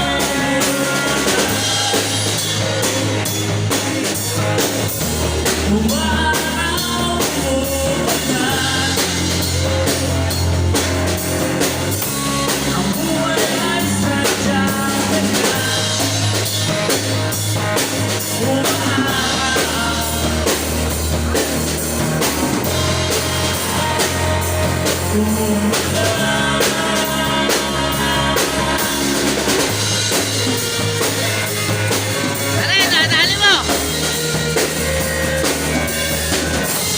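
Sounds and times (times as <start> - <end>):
band playing with drums: 0.0 - 36.9.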